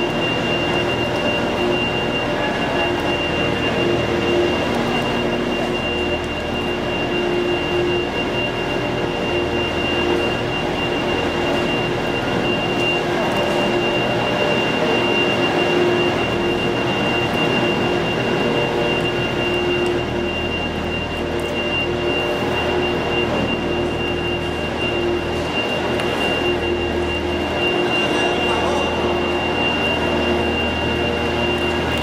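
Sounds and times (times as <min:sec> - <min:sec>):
heavy machinery whining: 0:00.0 - 0:32.0.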